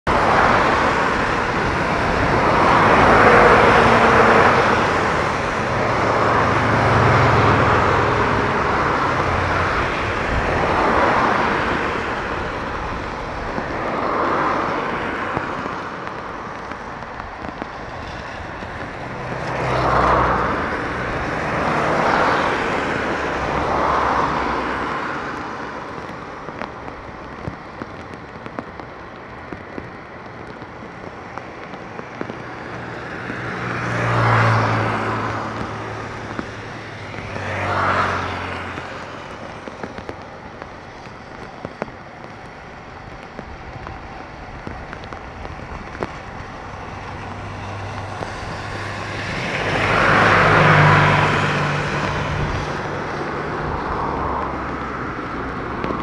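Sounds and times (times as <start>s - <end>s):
jet engines roaring: 0.0s - 56.0s
rain hissing: 0.1s - 56.0s.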